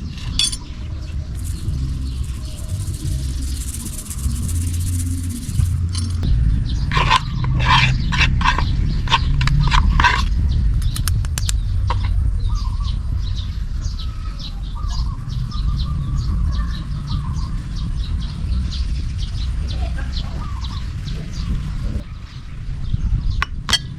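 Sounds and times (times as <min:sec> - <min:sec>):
loud steady low rumble: 0:00.0 - 0:23.9
small birds chirping: 0:00.0 - 0:23.9.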